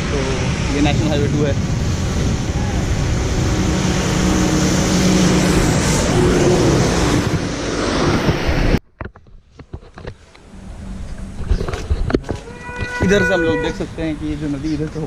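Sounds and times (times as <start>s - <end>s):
passing vehicle engine hum: 0.0s - 8.8s, 10.4s - 15.0s
road and tyre noise: 0.0s - 15.0s.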